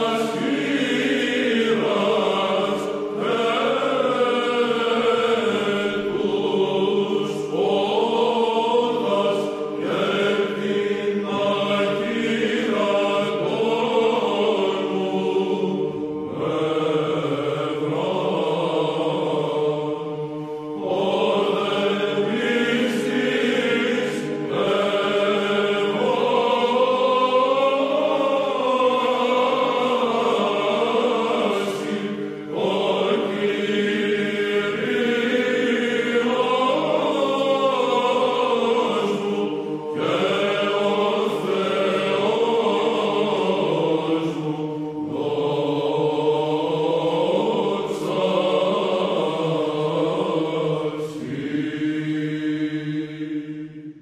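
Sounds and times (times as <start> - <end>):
choir chanting a hymn: 0.0 - 54.0.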